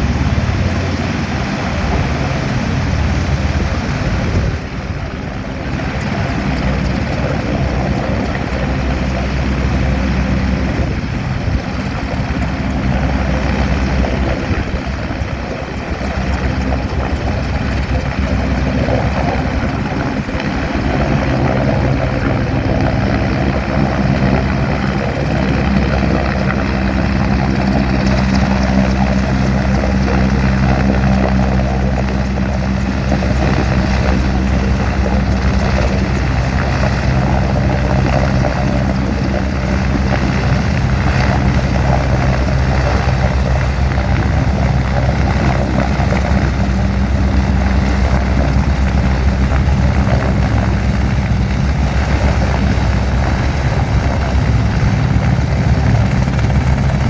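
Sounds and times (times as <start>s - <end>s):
helicopter hovering: 0.0s - 57.0s.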